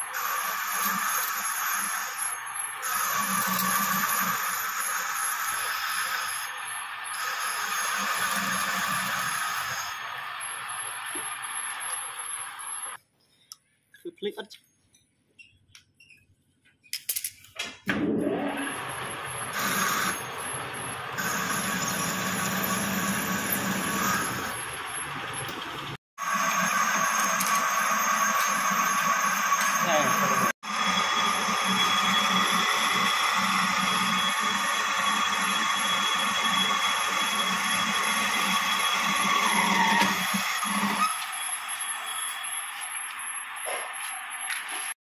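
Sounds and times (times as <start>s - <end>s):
thin high whine of boring bar: 0.0s - 13.0s, 18.1s - 45.0s
metal lathe motor running: 0.1s - 13.0s, 18.7s - 43.0s
high ringing tone: 1.1s - 13.0s, 18.7s - 25.6s, 26.2s - 45.0s.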